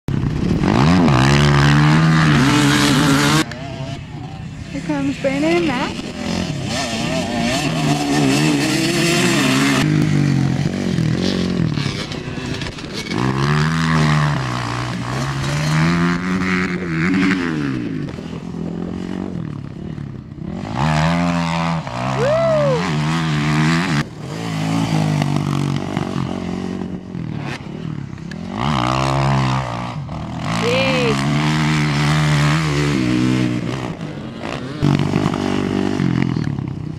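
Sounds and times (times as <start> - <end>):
dirt bike engines revving: 0.1 - 36.9.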